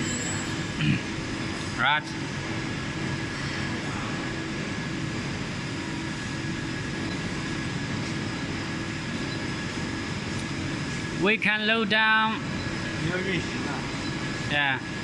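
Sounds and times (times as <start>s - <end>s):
faint constant whine: 0.0s - 15.0s
test chamber machinery drone: 0.0s - 15.0s.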